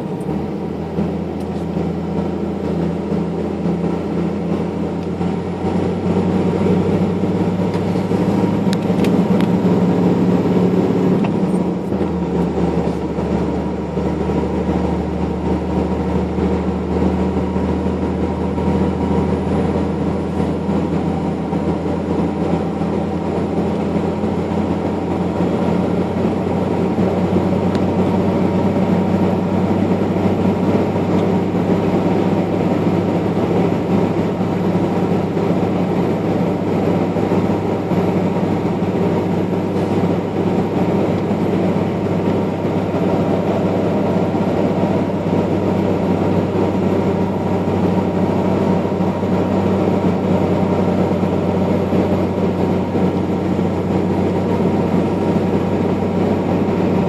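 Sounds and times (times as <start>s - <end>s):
vehicle engine and road drone: 0.0s - 57.0s.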